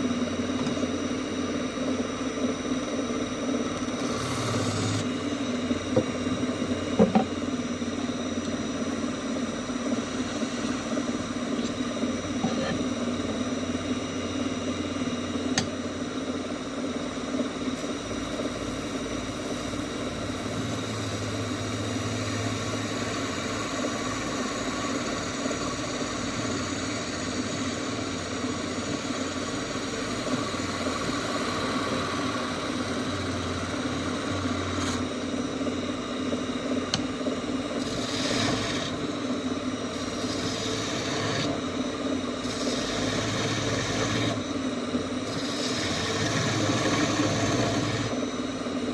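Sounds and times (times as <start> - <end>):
wood lathe motor hum: 3.6 - 13.9, 17.8 - 35.4, 37.7 - 48.9.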